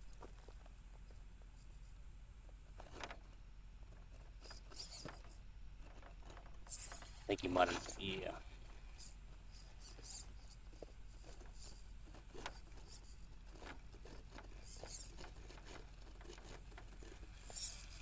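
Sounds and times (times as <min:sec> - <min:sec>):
toy car tires clicking and scraping: 0:00.0 - 0:18.0.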